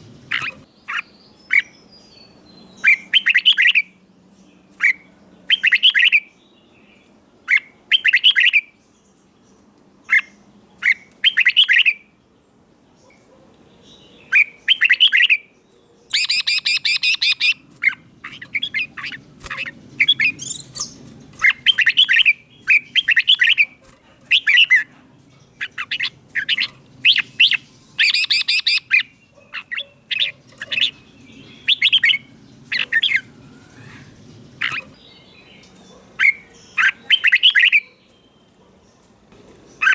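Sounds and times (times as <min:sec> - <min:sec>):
bird singing bright phrases: 0:00.0 - 0:39.9.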